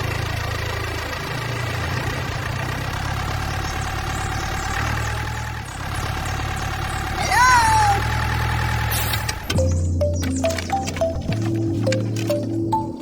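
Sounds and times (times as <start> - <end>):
engine idling: 0.0 - 12.9.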